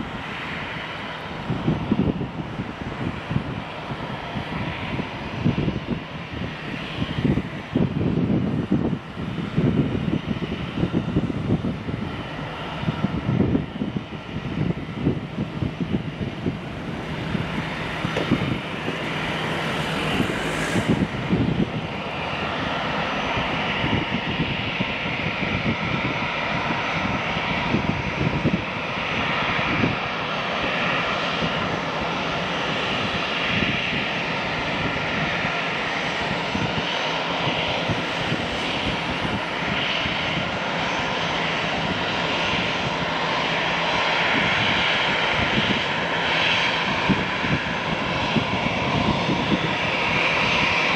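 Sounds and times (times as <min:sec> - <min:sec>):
jet engines whining: 0:00.0 - 0:50.9
wind buffeting microphone: 0:00.0 - 0:50.9.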